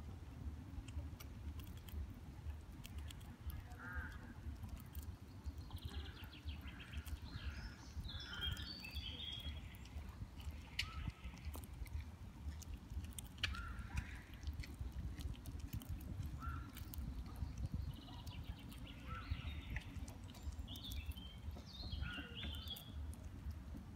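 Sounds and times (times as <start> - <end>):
low rumble: 0.0 - 23.9
squirrel gnawing a nut: 0.0 - 23.9
birds chirping: 2.8 - 23.9.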